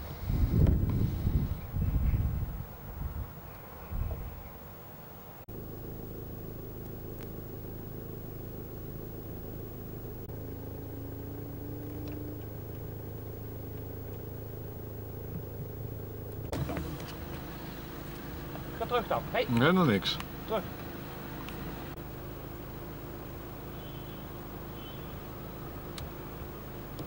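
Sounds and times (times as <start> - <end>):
car engine running: 5.0 - 27.0.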